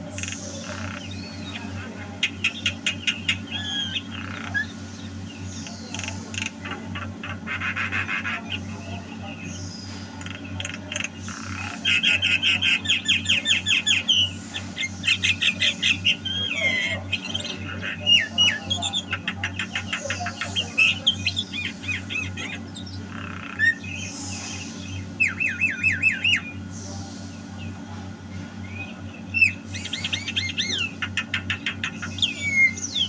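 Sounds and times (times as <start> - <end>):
myna bird singing: 0.0 - 33.0
steady low hum: 0.0 - 33.0.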